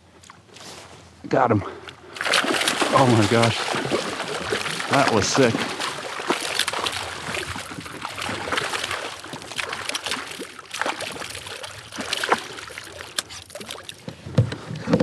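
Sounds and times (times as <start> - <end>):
fish thrashing and splashing: 2.0 - 14.2.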